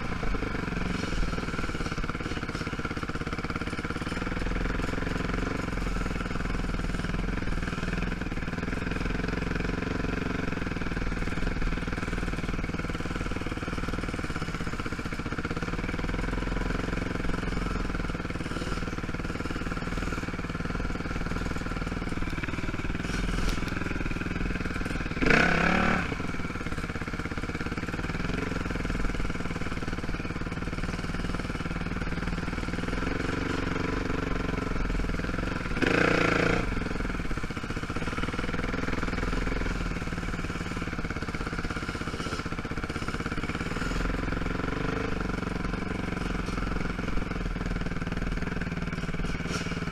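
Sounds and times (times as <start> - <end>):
quad bike engine running: 0.0 - 49.9.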